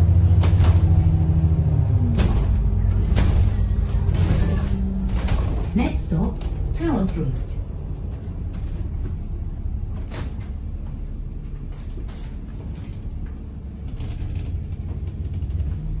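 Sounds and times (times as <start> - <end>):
bus rumbling inside cabin: 0.0 - 16.0
knocks and rattles: 0.1 - 16.0.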